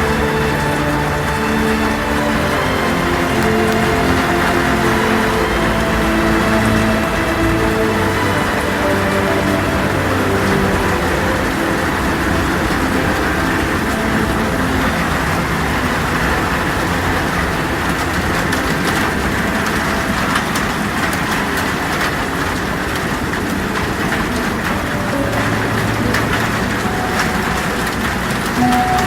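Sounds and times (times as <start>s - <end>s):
heavy rain on a metal roof: 0.0s - 29.0s
low rumble of storm wind: 0.0s - 29.0s.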